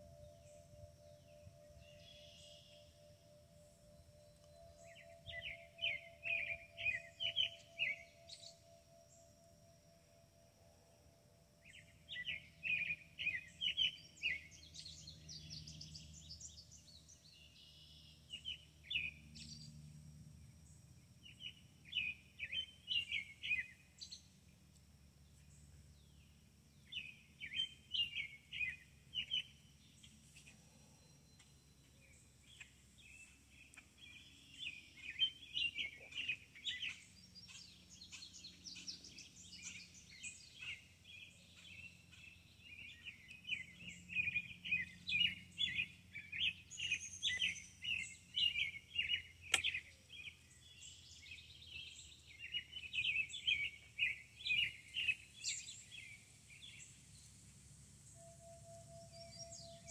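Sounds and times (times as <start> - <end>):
low steady background hum: 0.0 - 59.9
songbirds chirping: 0.0 - 59.9.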